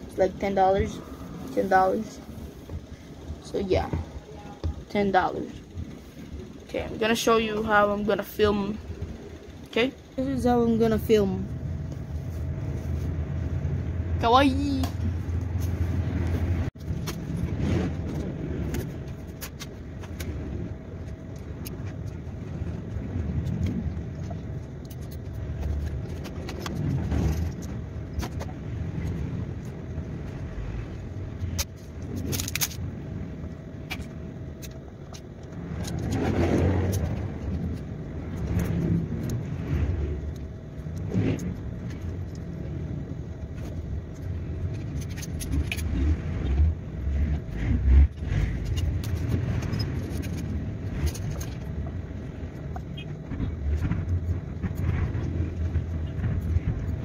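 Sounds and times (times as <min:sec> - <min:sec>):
faint hum: 0:00.0 - 0:57.0
low rumble: 0:00.0 - 0:57.0.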